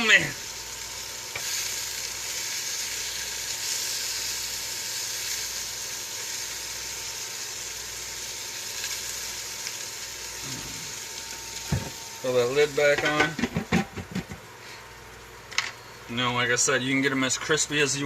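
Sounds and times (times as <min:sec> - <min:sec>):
bacon sizzling in a frying pan: 0:00.0 - 0:18.0.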